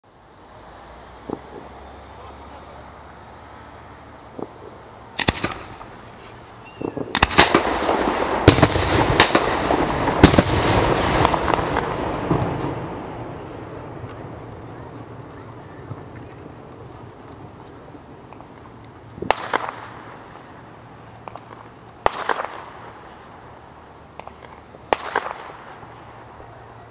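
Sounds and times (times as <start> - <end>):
fireworks crackling: 0.0 - 26.9
firework bangs: 0.6 - 26.9.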